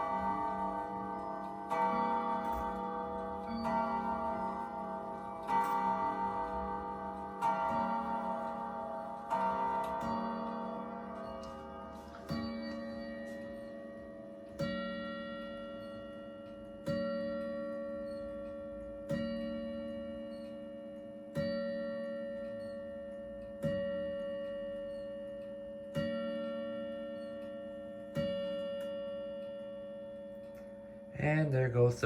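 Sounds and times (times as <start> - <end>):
clock chime strokes: 0.0 - 31.9.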